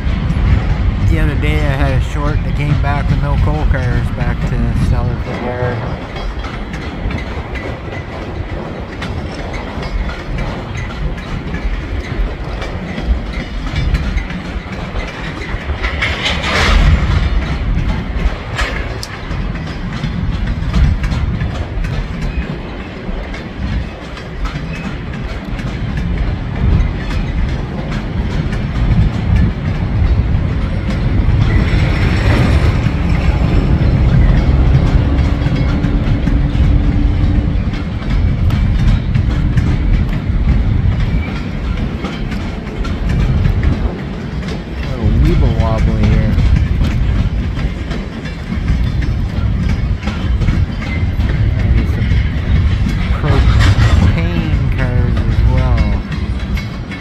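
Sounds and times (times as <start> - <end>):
freight train rolling past: 0.0 - 57.0
wheels clicking over rail joints: 0.0 - 57.0.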